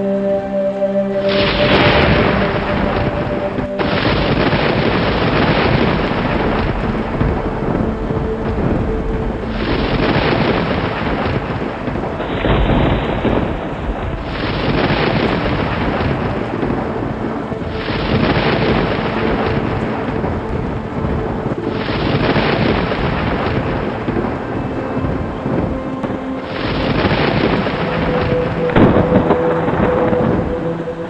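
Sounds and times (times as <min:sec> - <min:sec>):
heavy rain: 0:00.0 - 0:31.0
rolling thunder rumbles: 0:01.2 - 0:31.0.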